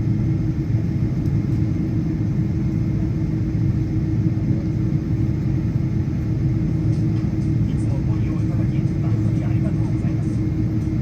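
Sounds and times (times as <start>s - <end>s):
airplane cabin rumble: 0.0s - 11.0s
steady hum: 0.0s - 11.0s.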